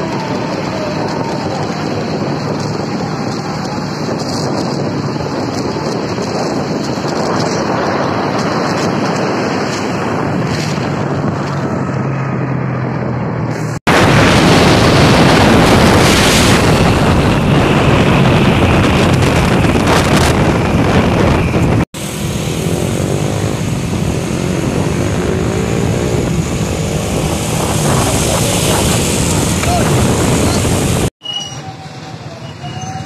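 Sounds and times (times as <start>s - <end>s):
passing truck engines: 0.0s - 33.0s
road and wind noise: 0.0s - 33.0s.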